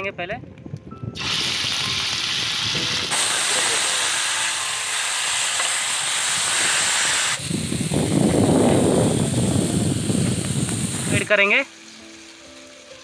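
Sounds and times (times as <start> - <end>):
meat sizzling in hot oil: 1.2 - 13.0.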